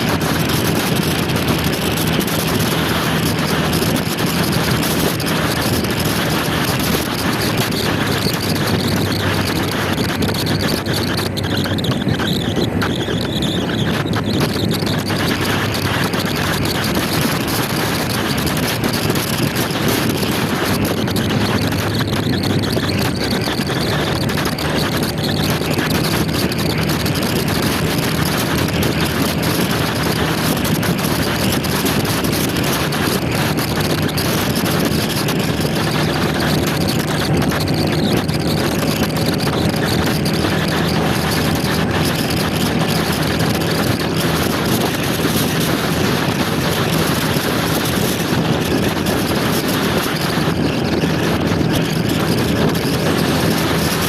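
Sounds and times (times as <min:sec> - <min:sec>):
motor scooter engine: 0:00.0 - 0:54.0
wind rush on microphone: 0:00.0 - 0:54.0.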